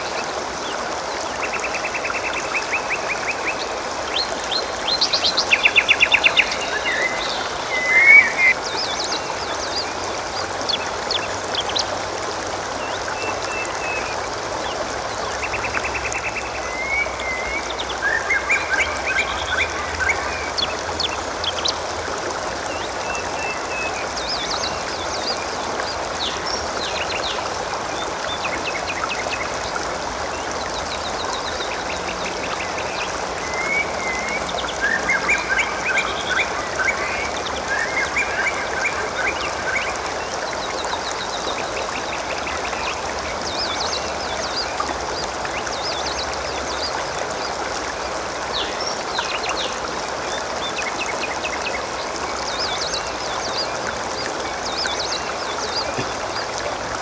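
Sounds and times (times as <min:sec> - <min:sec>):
water gurgling: 0:00.0 - 0:57.0.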